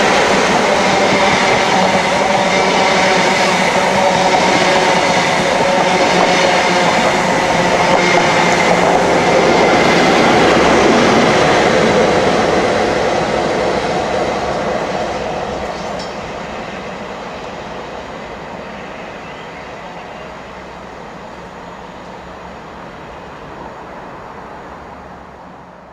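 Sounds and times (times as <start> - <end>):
diesel train engine: 0.0 - 25.9
train wheels on rails: 0.0 - 25.9.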